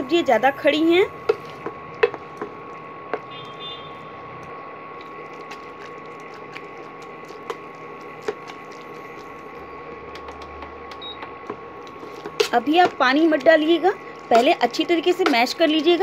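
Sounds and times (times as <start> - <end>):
faint steady hum: 0.0 - 16.0
masher working thick mash: 1.2 - 3.8, 5.0 - 16.0.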